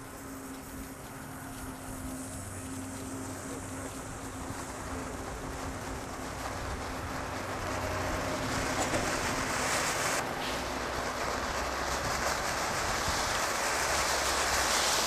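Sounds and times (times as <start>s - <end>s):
firework fountain hissing: 0.0s - 15.0s.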